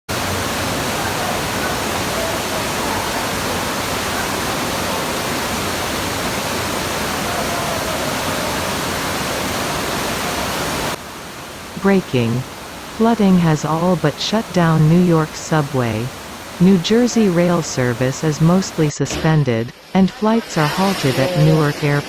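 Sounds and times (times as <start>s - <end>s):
floodwater rushing: 0.1s - 18.9s.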